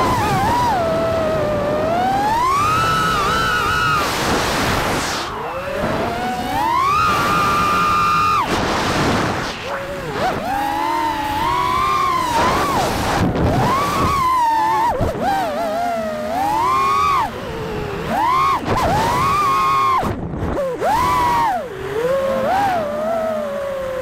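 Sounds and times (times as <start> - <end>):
quadcopter motors whining: 0.0 - 24.0
wind rushing over microphone: 0.0 - 24.0.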